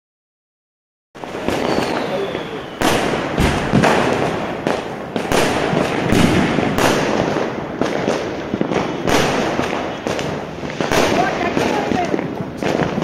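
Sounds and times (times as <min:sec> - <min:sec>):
crackling hissing sparks: 0:01.2 - 0:13.0
fireworks bangs: 0:01.2 - 0:13.0.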